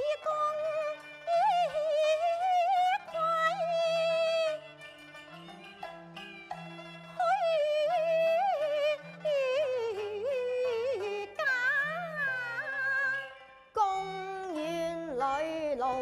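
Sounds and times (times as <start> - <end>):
opera music with sliding melody: 0.0 - 16.0.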